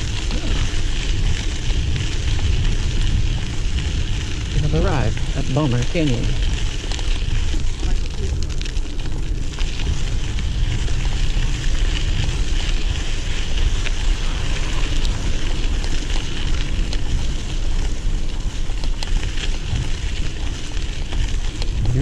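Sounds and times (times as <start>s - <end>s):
bike tyres crackling over dirt: 0.0s - 22.0s
wind buffeting microphone: 0.0s - 22.0s.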